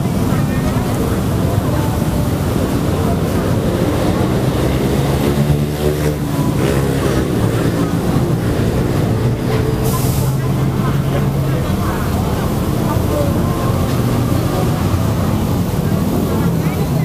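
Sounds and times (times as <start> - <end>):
crowd chatter: 0.0 - 17.0.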